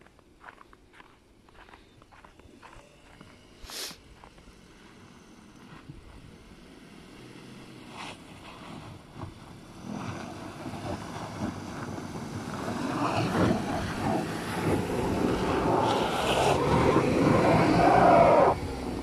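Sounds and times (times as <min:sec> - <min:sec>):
tyres on snow: 0:00.0 - 0:19.0
car engine running: 0:01.5 - 0:19.0.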